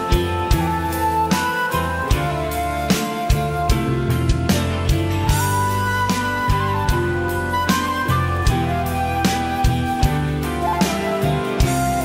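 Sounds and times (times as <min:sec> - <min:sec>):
drum kit slow beat: 0:00.0 - 0:12.0
rock band playing a slow ballad: 0:00.0 - 0:12.0.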